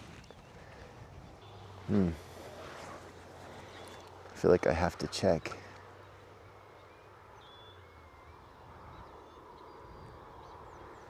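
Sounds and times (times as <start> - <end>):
faint bird chirps: 0.1 - 4.2, 5.2 - 11.0.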